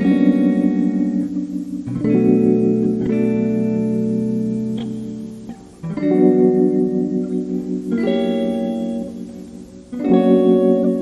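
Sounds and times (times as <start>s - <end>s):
guitar chord struck: 0.0s - 11.0s
guitar notes ringing: 0.0s - 11.0s.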